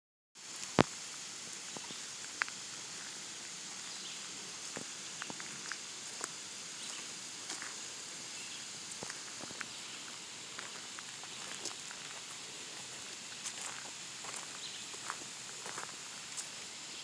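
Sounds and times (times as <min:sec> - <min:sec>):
steady outdoor hiss: 0:00.4 - 0:17.0
footsteps crunching on a trail: 0:01.7 - 0:16.6.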